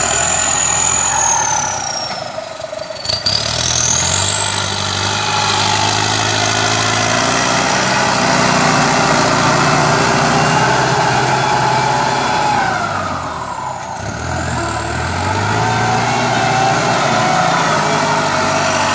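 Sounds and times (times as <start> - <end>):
high turbo whine: 0.0 - 18.9
tractor diesel engine under load: 0.0 - 18.9.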